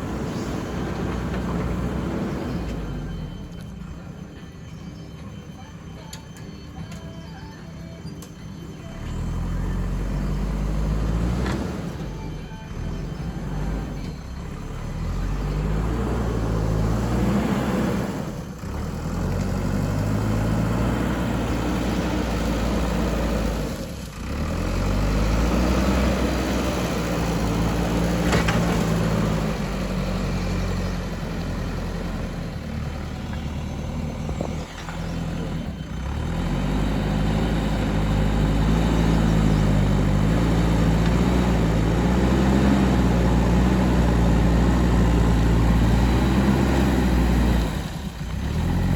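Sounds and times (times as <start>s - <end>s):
backhoe diesel engine under load: 0.0s - 48.9s.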